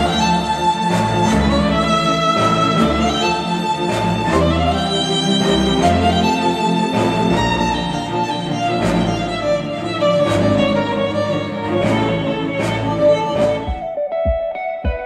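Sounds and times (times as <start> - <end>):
violin and strings music: 0.0 - 14.8.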